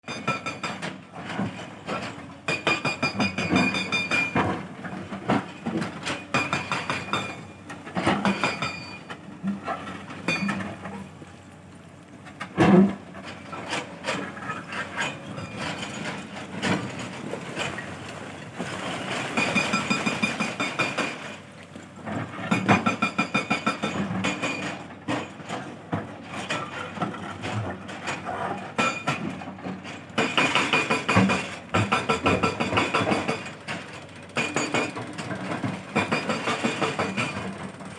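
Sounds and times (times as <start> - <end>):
excavator working: 0.1 - 37.9.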